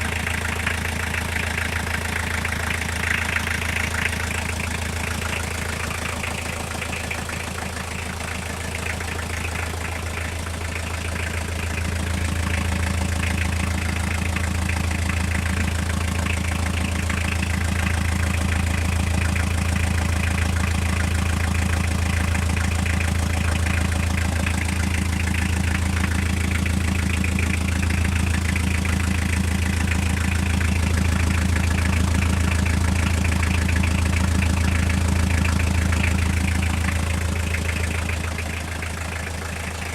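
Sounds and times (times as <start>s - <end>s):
diesel engine idling with knock: 0.0s - 39.9s.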